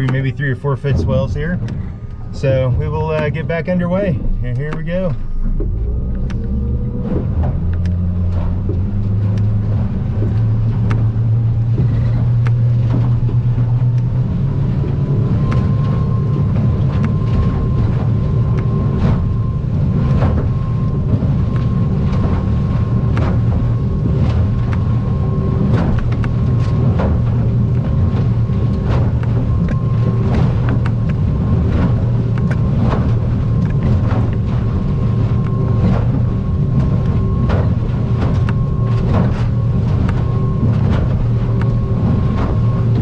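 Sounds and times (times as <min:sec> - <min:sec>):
boat hull slapping waves: 0:00.0 - 0:43.0
outboard engine running: 0:00.0 - 0:43.0.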